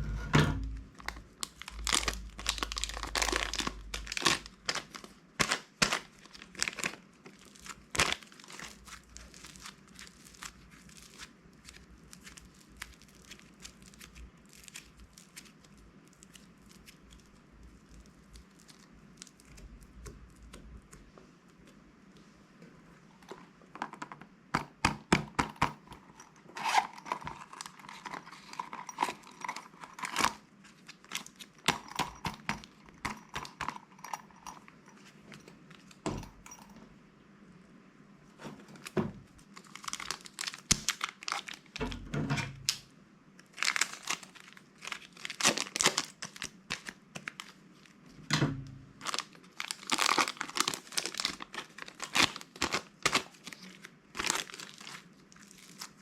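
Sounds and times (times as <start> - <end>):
plastic bags crinkling: 0.7 - 20.9, 25.8 - 36.7, 38.4 - 42.8, 43.4 - 48.2, 49.0 - 56.0.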